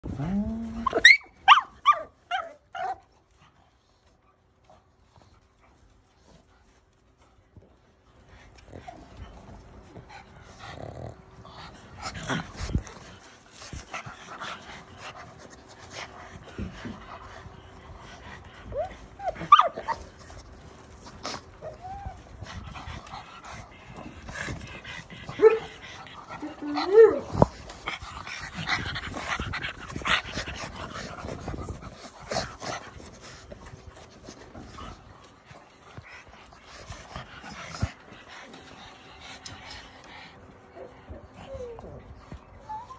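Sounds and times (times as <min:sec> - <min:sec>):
dog panting noisily: 0:03.3 - 0:42.9.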